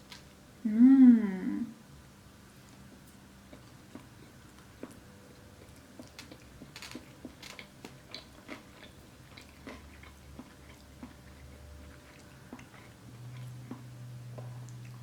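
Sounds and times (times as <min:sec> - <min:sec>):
person chewing crunchy food: 0:02.7 - 0:15.0.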